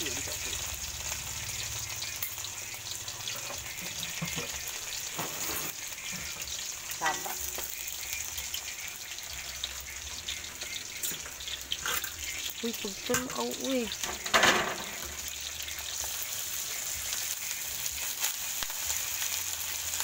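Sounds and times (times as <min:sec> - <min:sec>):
garlic sizzling in hot oil: 0:00.0 - 0:20.0.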